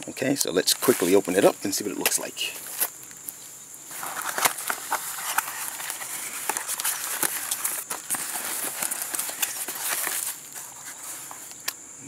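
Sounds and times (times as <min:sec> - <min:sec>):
cardboard and wrapping rustling: 0:00.7 - 0:11.7
packaging clicks and snaps: 0:02.0 - 0:11.8.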